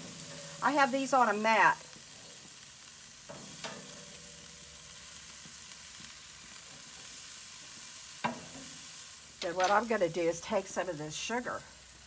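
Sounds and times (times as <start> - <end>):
metal spatula scraping grill: 0.0 - 10.6
food sizzling on a grill: 0.0 - 12.0.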